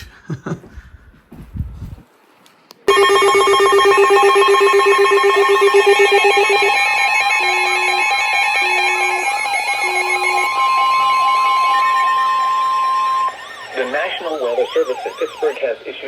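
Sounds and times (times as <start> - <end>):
fast warbling alarm tone: 2.9 - 16.0
rapid electronic beeping: 2.9 - 16.0
steady high tones: 2.9 - 16.0.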